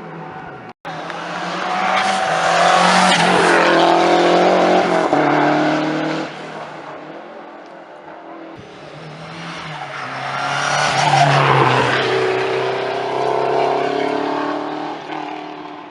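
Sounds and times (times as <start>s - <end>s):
rally car engine revving past: 1.0s - 6.5s, 8.6s - 15.9s.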